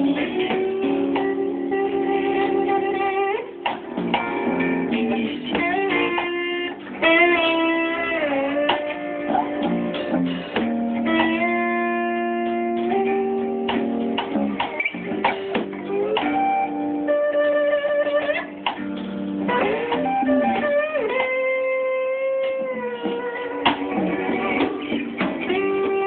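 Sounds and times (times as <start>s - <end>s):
guitar playing chords: 0.0s - 26.0s.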